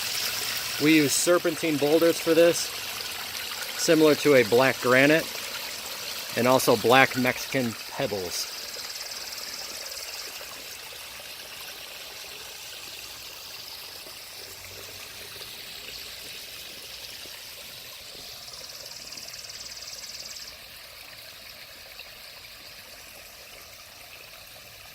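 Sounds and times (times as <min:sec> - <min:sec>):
waterfall trickling over rocks: 0:00.0 - 0:24.9.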